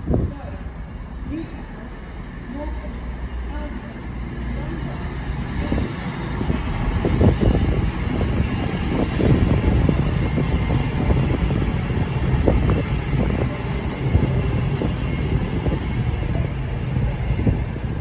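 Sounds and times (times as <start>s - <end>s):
diesel train rumbling past: 0.0s - 18.0s.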